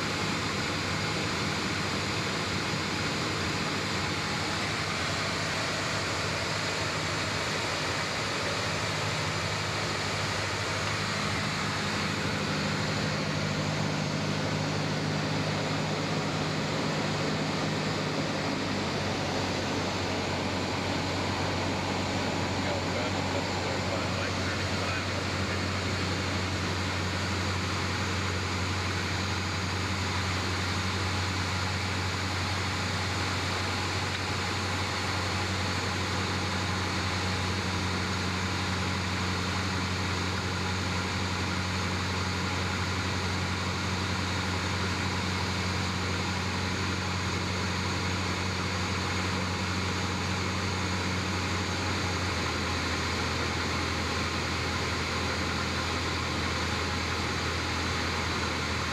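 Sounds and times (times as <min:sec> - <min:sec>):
propeller aircraft engine droning: 0:00.0 - 0:58.9.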